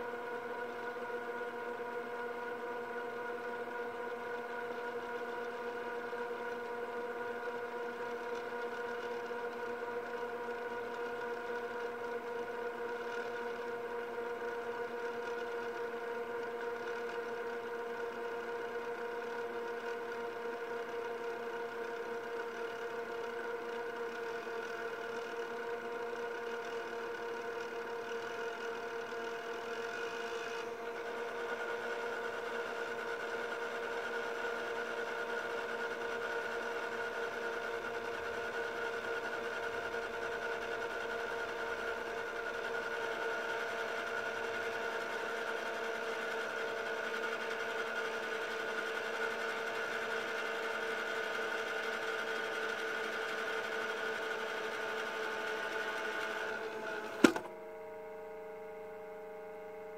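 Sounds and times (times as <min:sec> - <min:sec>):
camcorder motor whirring: 0:00.0 - 0:57.6.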